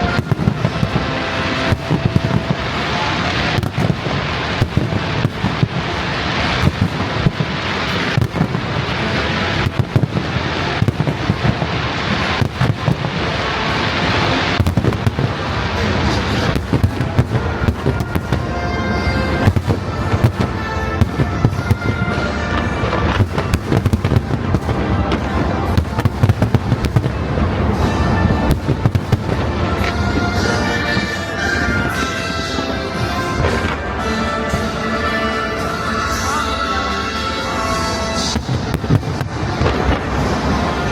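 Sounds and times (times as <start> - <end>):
fireworks bangs and crackling: 0.0 - 40.9
fireworks hissing: 0.0 - 40.9
show music: 0.0 - 40.9.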